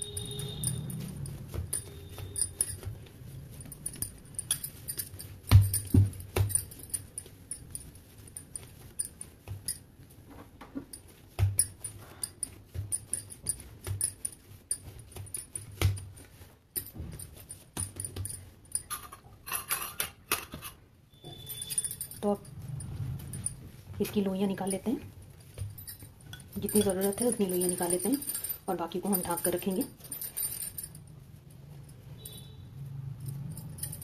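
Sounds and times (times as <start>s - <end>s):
bangles clinking: 0.0s - 34.0s.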